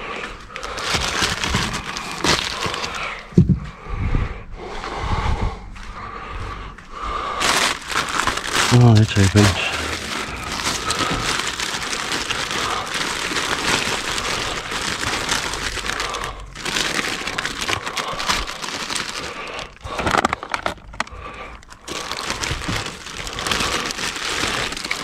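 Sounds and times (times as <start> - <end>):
plastic bags crinkling: 0.2 - 3.3, 7.4 - 25.0.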